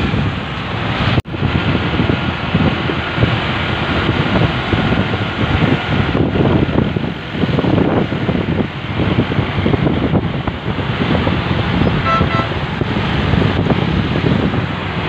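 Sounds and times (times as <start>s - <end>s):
road and traffic noise: 0.0s - 15.0s
wind buffeting microphone: 0.0s - 15.0s.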